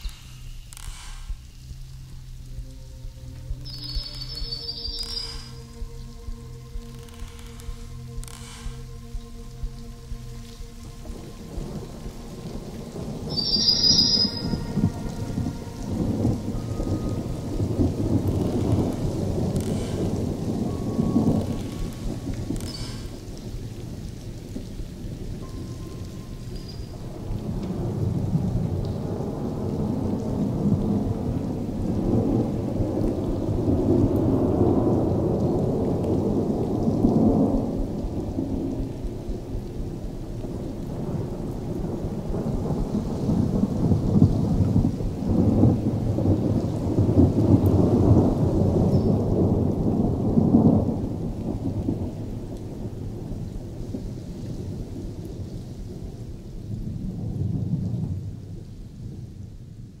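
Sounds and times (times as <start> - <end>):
low thunder-like rumble: 0.0 - 60.0.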